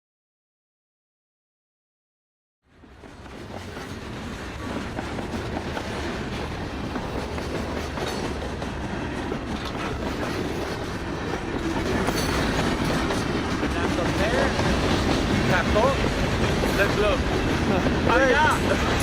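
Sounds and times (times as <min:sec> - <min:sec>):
train rumbling and rattling: 0:02.7 - 0:19.0.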